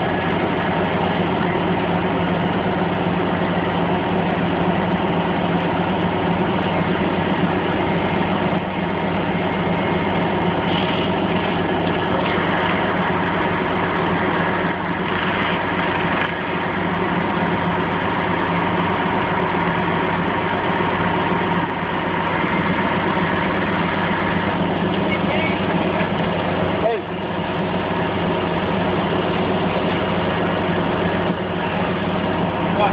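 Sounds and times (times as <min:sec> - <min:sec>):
crane engine running: 0:00.0 - 0:32.9.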